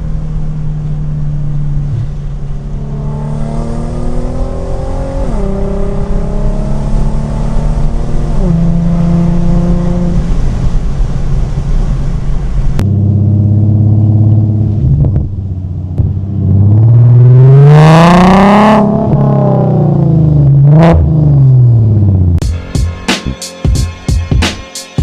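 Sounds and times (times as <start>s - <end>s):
car engine revving through exhaust: 0.0s - 22.4s.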